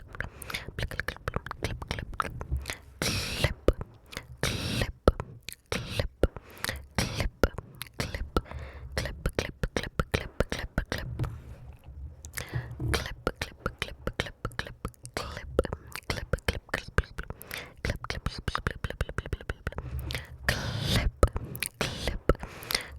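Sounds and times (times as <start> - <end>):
wet tongue and lip clicks: 0.0 - 11.1, 11.8 - 22.9
breathy whispered hisses: 2.7 - 11.0, 12.4 - 22.9.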